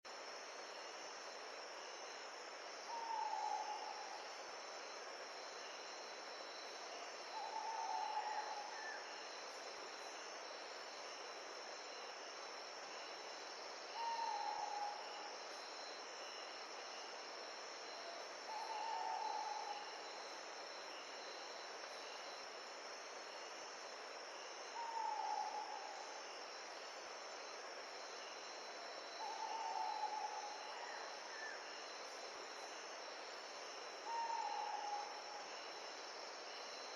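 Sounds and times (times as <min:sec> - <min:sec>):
wind: 0:00.0 - 0:36.9
high insect drone: 0:00.1 - 0:36.9.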